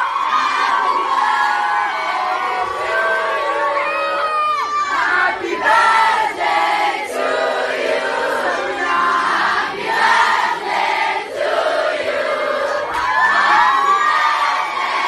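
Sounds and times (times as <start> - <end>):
crowd singing in unison: 0.0 - 15.0.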